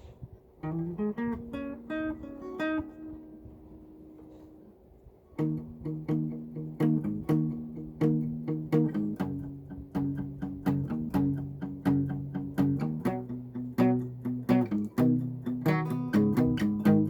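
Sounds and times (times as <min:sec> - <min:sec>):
guitar strumming chords: 0:00.6 - 0:04.4, 0:05.4 - 0:17.0.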